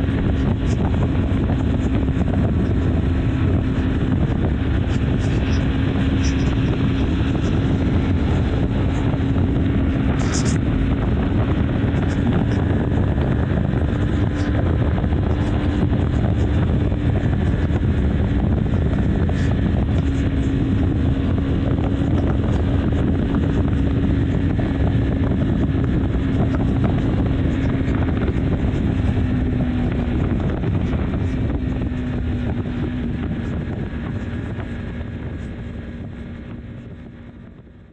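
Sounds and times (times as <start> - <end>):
motorcycle engine cruising: 0.0 - 37.9
road noise: 0.0 - 37.9
wind noise on microphone: 0.0 - 37.9.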